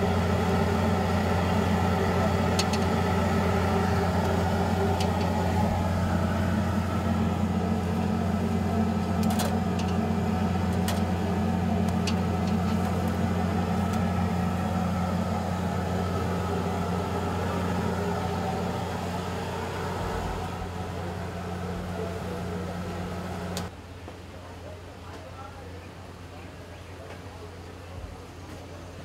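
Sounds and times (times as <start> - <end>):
low machine hum: 0.0 - 23.8.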